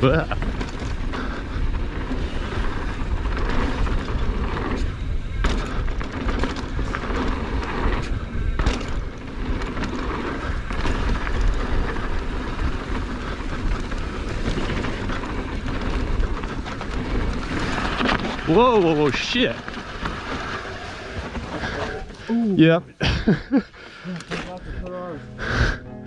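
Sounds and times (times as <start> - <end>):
bike knocks and rattles: 0.0 - 22.2
tyre and wind rush: 0.0 - 25.9.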